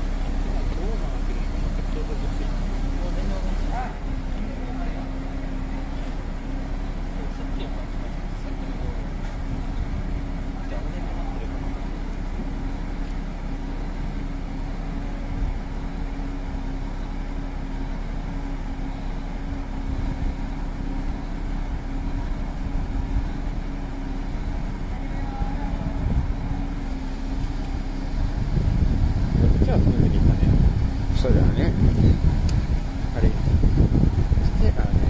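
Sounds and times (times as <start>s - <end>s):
diesel truck engine idling: 0.0s - 35.0s.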